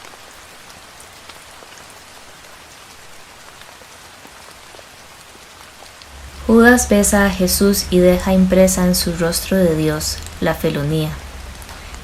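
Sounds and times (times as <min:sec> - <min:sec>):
rain falling: 0:00.0 - 0:12.0
raindrop ticks: 0:00.0 - 0:12.0.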